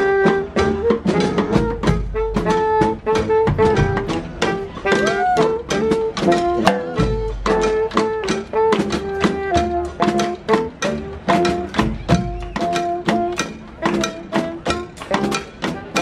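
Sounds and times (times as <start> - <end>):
brass street band playing: 0.0 - 16.0
quick drum beat: 0.1 - 16.0.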